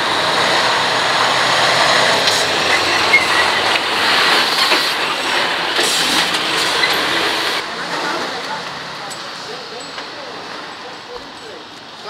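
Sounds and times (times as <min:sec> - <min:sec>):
heavy vehicle running: 0:00.0 - 0:12.0.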